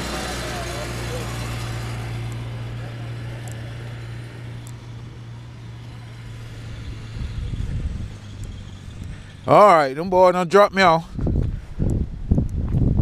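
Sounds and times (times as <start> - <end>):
outdoor noise: 0.0 - 13.0
vehicle engine running: 0.0 - 13.0.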